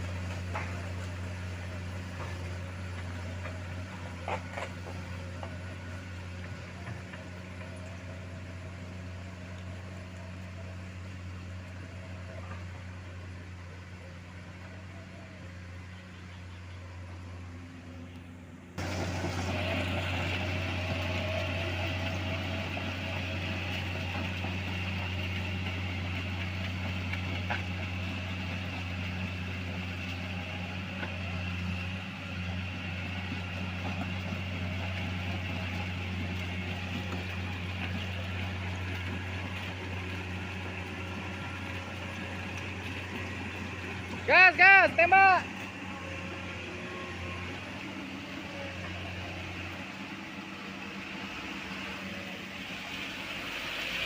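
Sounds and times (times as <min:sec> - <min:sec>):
diesel machinery humming: 0:00.0 - 0:54.0.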